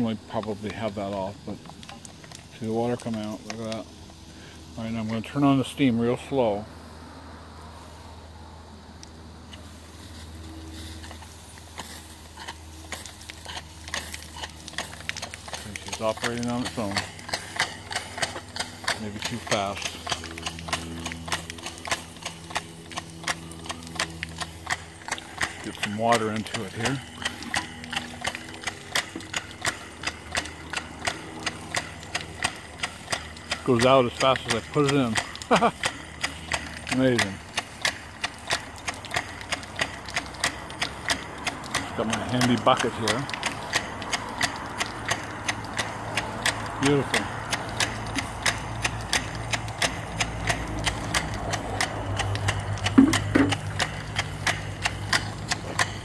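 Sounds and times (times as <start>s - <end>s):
steam pump clicking: 0.0s - 6.4s, 9.0s - 56.0s
steady low hum: 0.0s - 56.0s.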